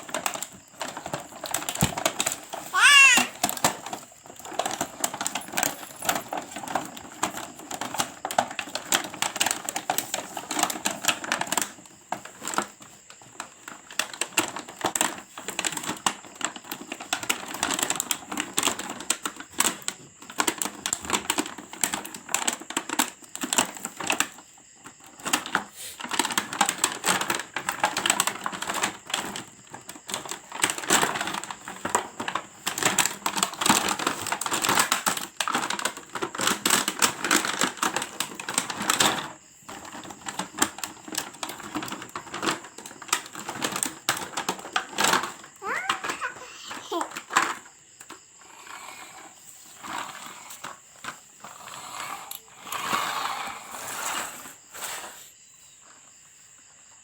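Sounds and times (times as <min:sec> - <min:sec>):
plastic toy clicking and rattling: 0:00.0 - 0:51.2.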